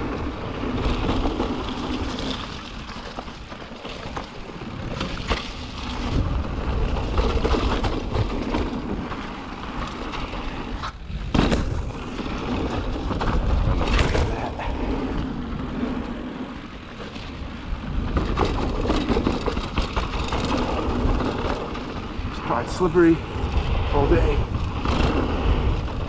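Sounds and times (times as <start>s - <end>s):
bike rattling and clicking: 0.0s - 26.0s
tyres on dirt: 0.0s - 26.0s
wind noise on microphone: 4.4s - 26.0s.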